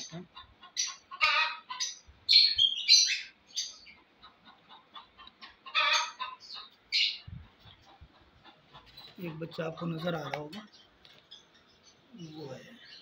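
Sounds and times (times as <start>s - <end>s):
lovebirds calling: 0.0s - 13.0s.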